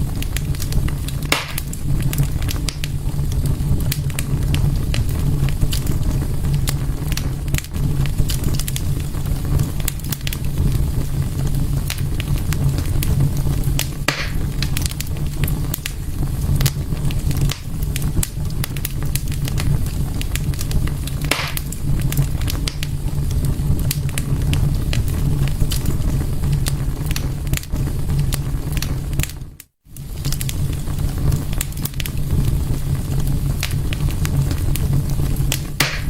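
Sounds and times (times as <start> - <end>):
fireplace fire crackling: 0.0 - 36.0
low rumble of fire: 0.0 - 36.0.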